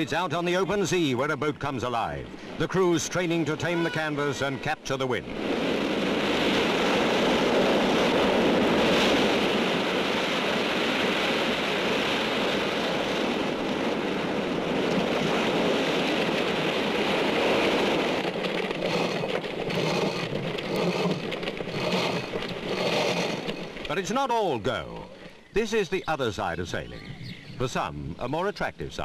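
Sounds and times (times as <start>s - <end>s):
sea: 0.0s - 25.8s
wind: 0.0s - 29.0s.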